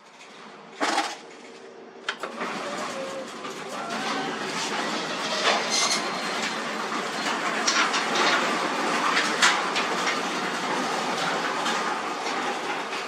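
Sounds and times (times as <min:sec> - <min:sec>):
garage door rolling rattle: 0:00.0 - 0:13.0.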